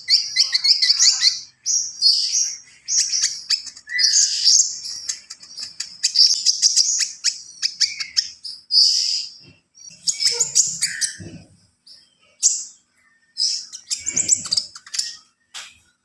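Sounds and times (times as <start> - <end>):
sunbird singing: 0.0 - 15.9.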